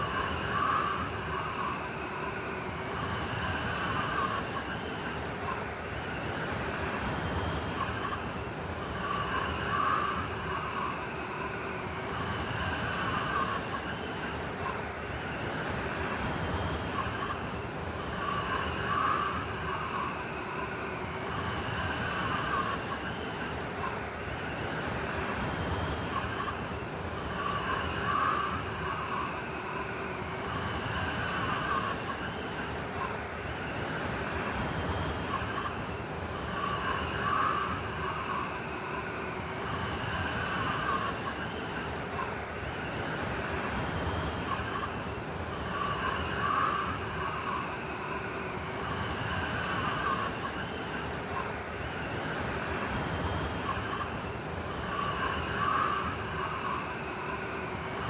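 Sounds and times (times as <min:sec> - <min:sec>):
wind howling and whistling: 0:00.0 - 0:58.0.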